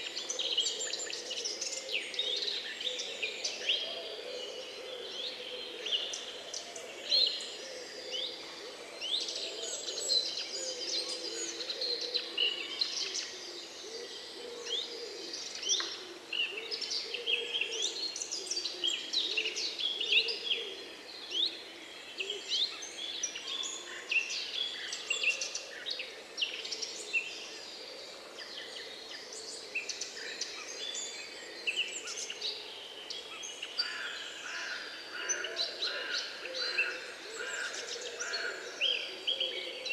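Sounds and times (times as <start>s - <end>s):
birds chorus chirping: 0.0s - 39.9s.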